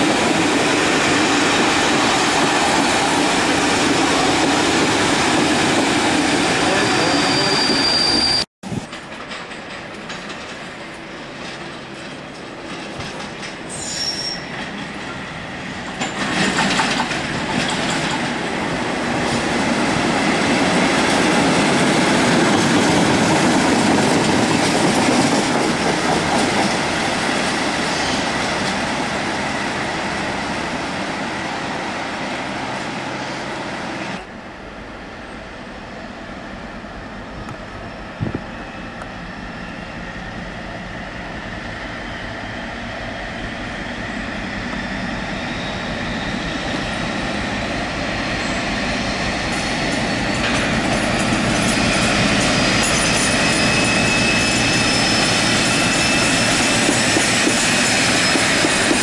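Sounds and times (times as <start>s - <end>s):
diesel locomotive engine passing: 0.0s - 8.5s, 14.4s - 59.0s
diesel locomotive drawing freight train: 0.0s - 59.0s
train coaches rolling past: 0.0s - 59.0s.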